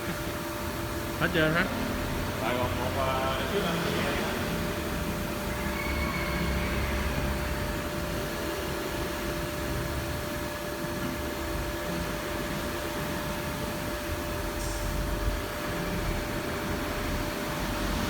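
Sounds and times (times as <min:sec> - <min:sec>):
machining centre hiss and whine: 0:00.0 - 0:18.0.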